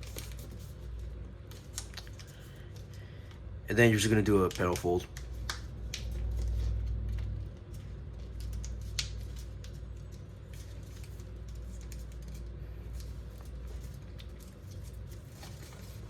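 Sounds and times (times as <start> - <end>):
paper being folded and creased: 0.0 - 3.0, 3.9 - 16.0.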